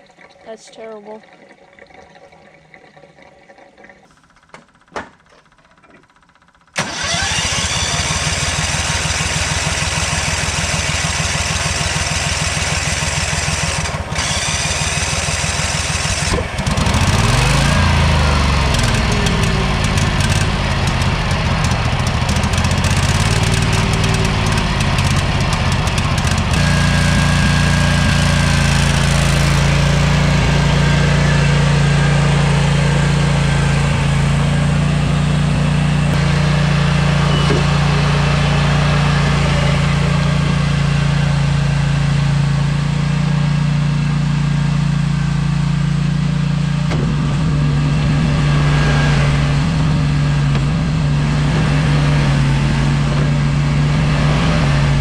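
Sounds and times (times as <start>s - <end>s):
gasoline engine running: 4.0s - 55.0s.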